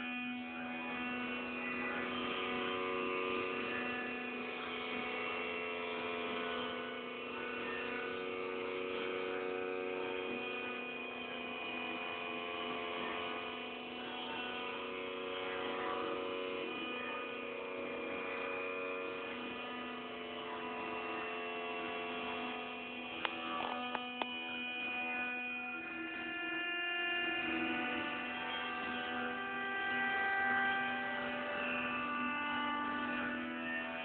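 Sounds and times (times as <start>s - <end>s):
electronic drone: 0.0s - 34.0s.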